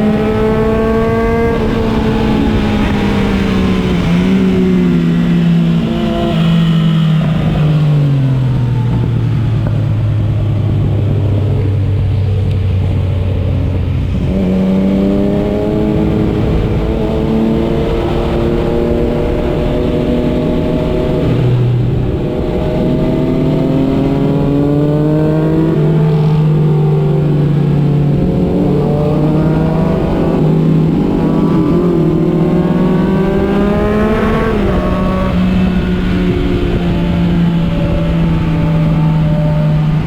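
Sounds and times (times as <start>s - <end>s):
motorcycle engine revving: 0.0s - 40.0s
wind noise: 0.0s - 40.0s.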